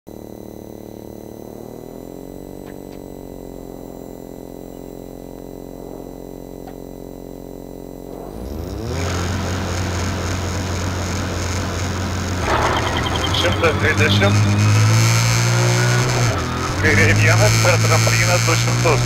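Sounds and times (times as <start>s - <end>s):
car engine idling and revving: 0.1s - 19.0s.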